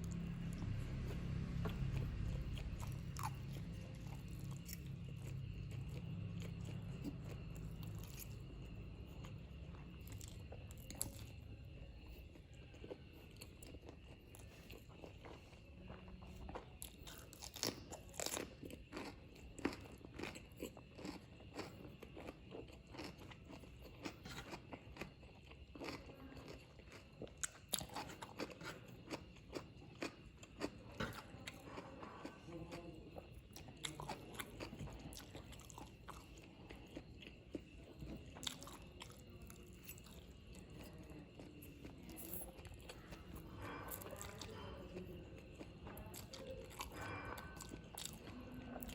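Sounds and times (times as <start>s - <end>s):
close chewing noodles: 0.0s - 48.9s.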